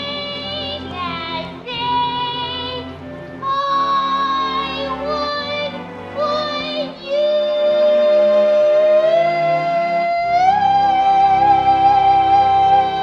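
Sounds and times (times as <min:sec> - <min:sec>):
low instrumental accompaniment: 0:00.0 - 0:13.0
woman singing operatically: 0:00.0 - 0:13.0.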